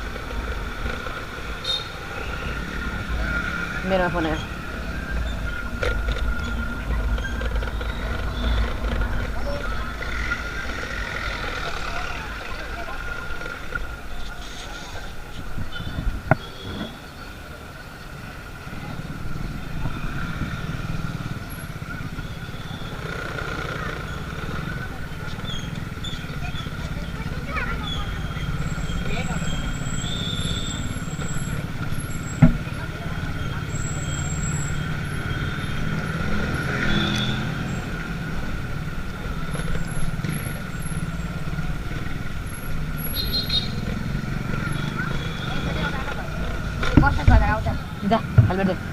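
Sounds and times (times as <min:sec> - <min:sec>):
motorcycle engine rumbling: 0:00.0 - 0:48.9
road noise: 0:00.0 - 0:48.9.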